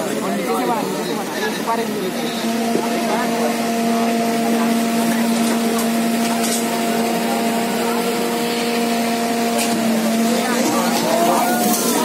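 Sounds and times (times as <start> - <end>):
fire truck engine running: 0.0 - 12.0.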